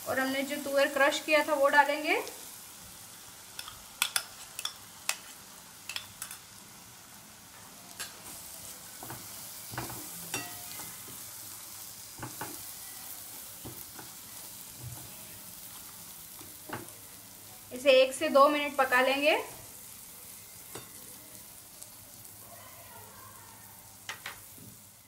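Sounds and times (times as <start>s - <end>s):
pan sizzling: 0.0s - 25.0s.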